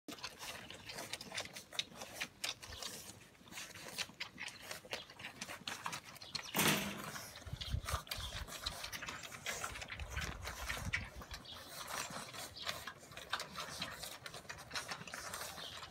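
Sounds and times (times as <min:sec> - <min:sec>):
puppies suckling wet clicks: 0:00.1 - 0:15.9.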